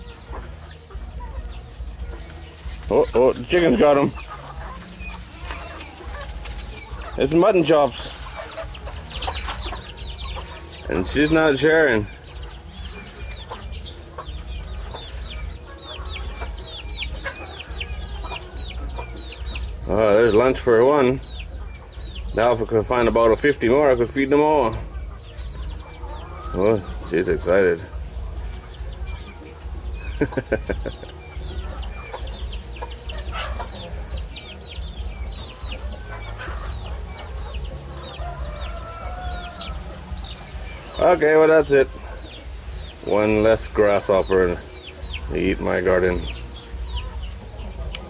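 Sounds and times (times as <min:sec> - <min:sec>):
chickens clucking: 0:00.0 - 0:48.0.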